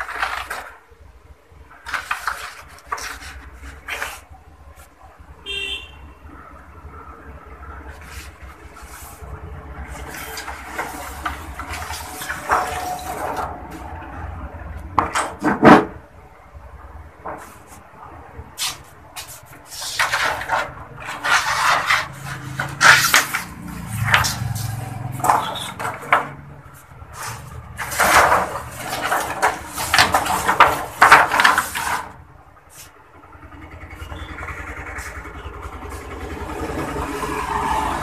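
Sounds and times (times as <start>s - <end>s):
objects scraping and clattering: 0.0s - 1.0s, 1.7s - 5.0s, 7.6s - 16.1s, 17.2s - 38.0s.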